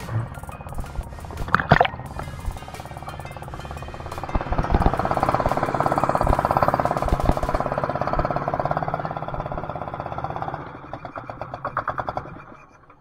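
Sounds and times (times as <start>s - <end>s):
petrol engine and compressor running: 0.0s - 13.0s.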